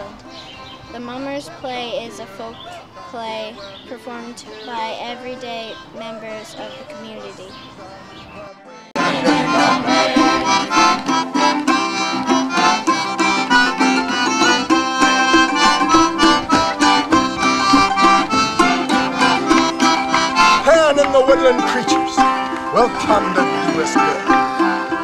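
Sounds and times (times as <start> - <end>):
instrumental folk music: 0.0 - 25.0.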